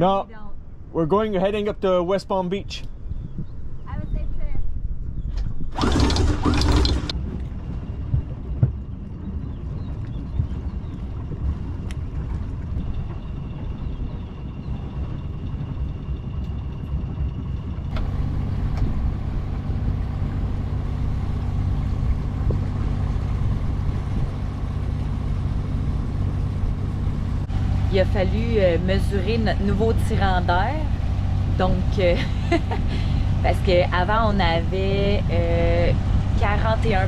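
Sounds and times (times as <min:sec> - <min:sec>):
boat engine droning: 0:05.7 - 0:37.0.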